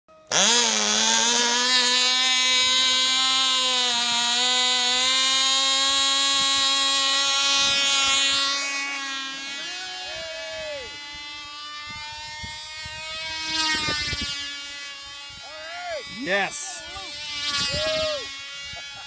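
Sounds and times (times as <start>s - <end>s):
model airplane engine buzzing: 0.1s - 19.0s.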